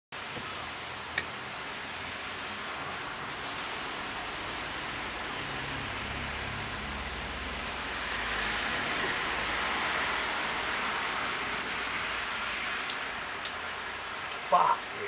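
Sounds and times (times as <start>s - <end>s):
rain hissing: 0.2s - 15.0s.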